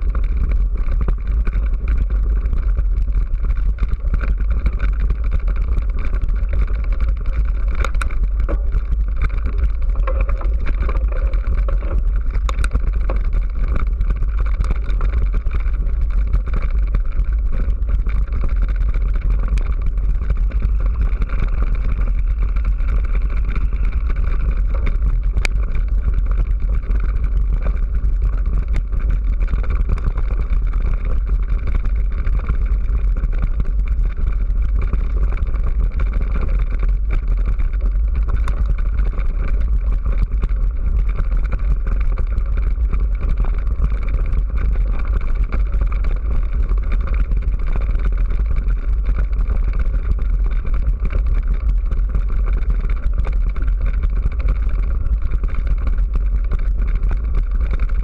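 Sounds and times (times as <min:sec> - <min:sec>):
rattling vibration on gravel: 0:00.0 - 0:58.0
wind rumble on microphone: 0:00.0 - 0:58.0.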